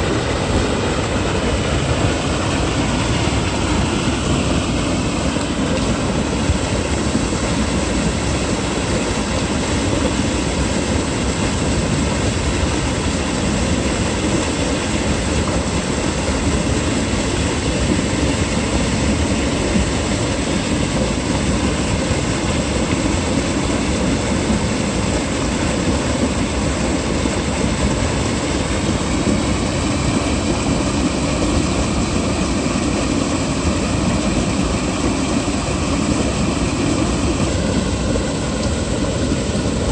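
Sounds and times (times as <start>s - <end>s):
water gushing into channel: 0.0s - 39.9s.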